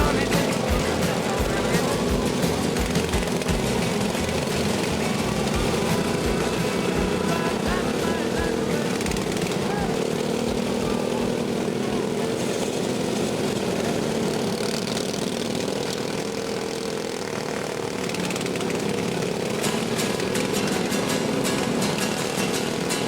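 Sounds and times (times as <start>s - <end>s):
lawn mower engines droning: 0.0s - 23.0s.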